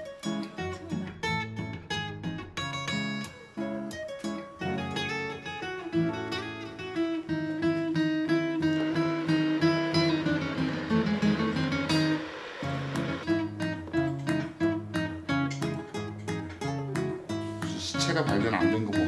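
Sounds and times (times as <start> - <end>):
acoustic guitar: 0.0 - 19.0.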